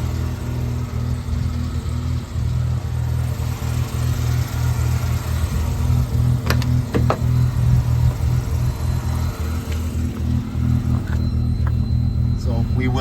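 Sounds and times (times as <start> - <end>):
rotary engine idling: 0.0 - 13.0.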